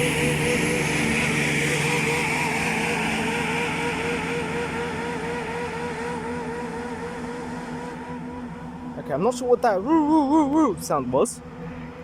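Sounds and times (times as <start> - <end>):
diesel train engine pulling away: 0.0 - 12.0
wavering pulsing tone: 0.0 - 12.0.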